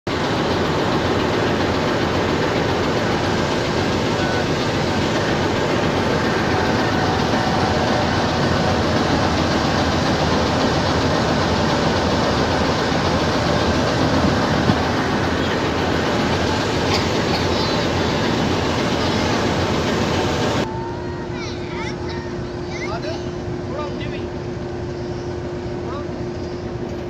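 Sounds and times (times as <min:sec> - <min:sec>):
diesel locomotive idling: 0:00.1 - 0:27.0.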